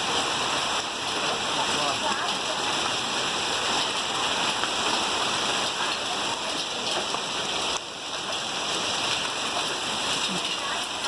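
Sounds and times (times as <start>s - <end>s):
hail and rain pelting down: 0.0s - 11.0s.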